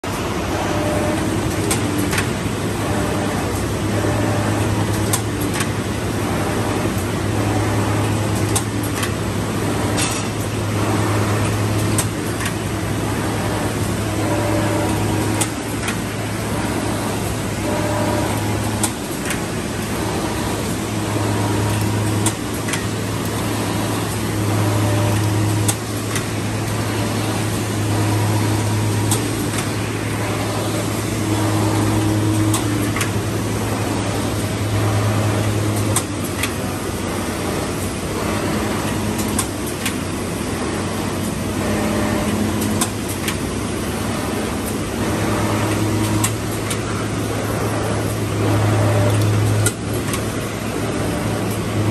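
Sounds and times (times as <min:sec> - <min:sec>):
machine clatter and whir: 0:00.0 - 0:51.9.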